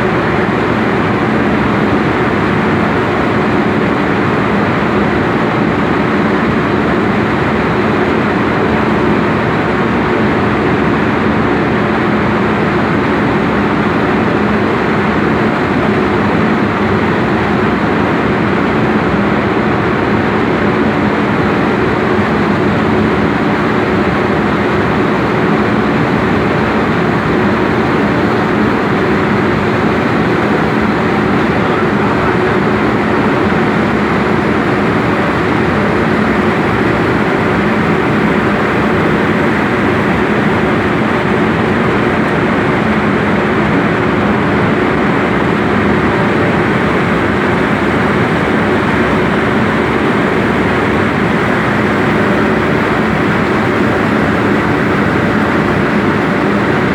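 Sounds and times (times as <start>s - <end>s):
dryer machine running with hum: 0.0s - 56.9s.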